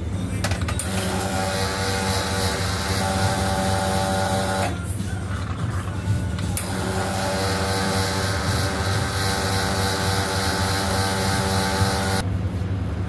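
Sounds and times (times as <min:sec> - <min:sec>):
coffee machine humming: 0:00.8 - 0:12.3.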